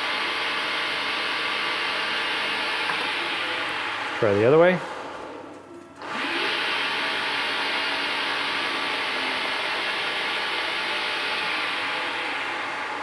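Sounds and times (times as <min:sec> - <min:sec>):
lathe motor whirring: 0:00.0 - 0:13.0.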